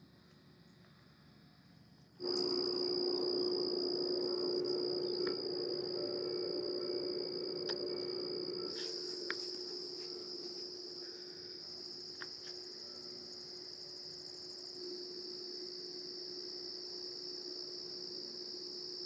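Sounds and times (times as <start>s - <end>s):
crickets chirring: 0.0s - 19.0s
faint low hum: 0.0s - 19.0s.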